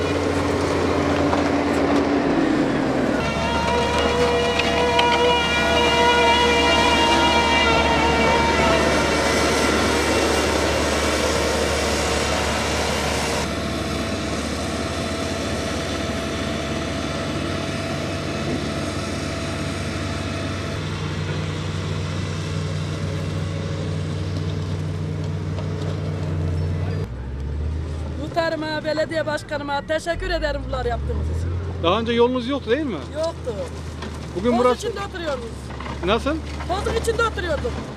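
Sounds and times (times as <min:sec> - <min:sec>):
heavy machine diesel engines: 0:00.0 - 0:37.9.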